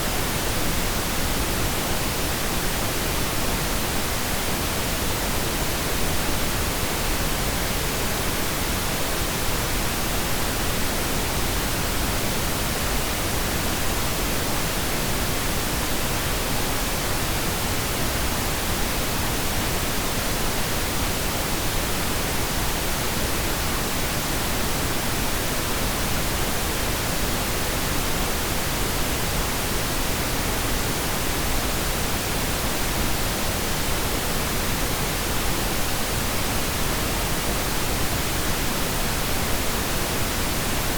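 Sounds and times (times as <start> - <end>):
steady pink noise hiss: 0.0 - 40.9.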